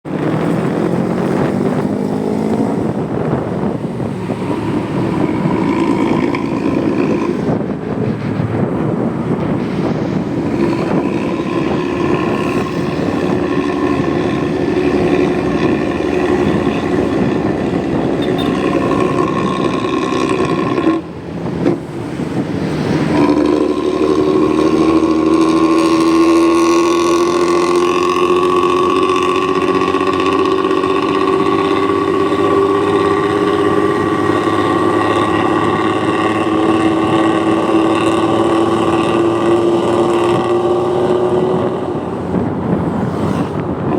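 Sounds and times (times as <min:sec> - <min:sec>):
engine exhaust drone: 0:00.0 - 0:43.9.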